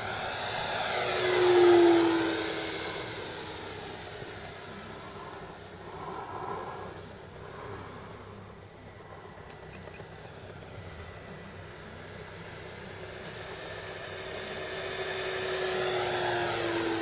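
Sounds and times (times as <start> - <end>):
distant rc plane propeller whine: 0.0 - 17.0.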